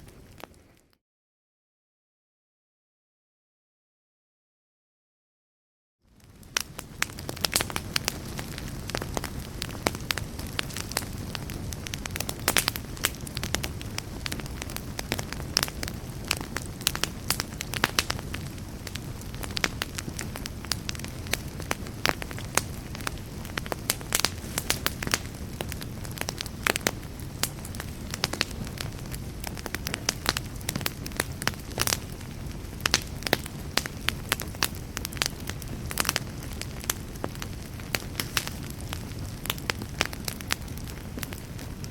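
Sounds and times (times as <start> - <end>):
wood fire crackling: 0.0 - 1.0, 6.1 - 41.9
low rush of flames: 6.1 - 41.9.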